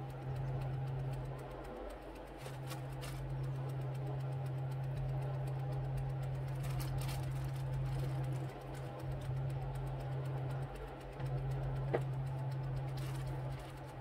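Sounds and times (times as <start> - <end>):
faint clicks: 0.0 - 14.0
motor humming: 0.0 - 14.0.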